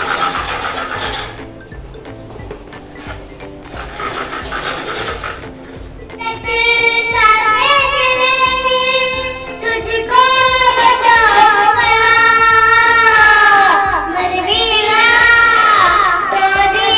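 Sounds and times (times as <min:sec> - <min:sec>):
music: 0:00.0 - 0:16.9.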